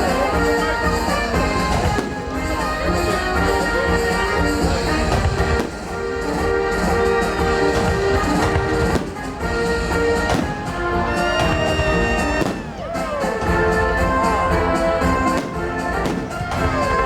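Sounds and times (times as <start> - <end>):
fireworks banging: 0.0 - 17.0
fireworks whistling: 0.0 - 17.0
orchestral music: 0.0 - 17.0.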